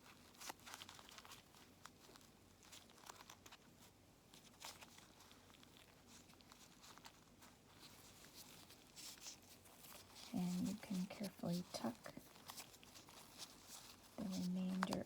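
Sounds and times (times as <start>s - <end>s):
mask rustling and clicking: 0.0s - 15.0s.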